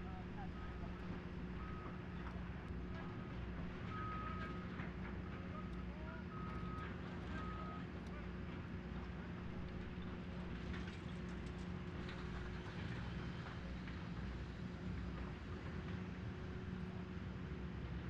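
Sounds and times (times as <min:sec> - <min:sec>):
heavy equipment engine humming: 0:00.0 - 0:18.0.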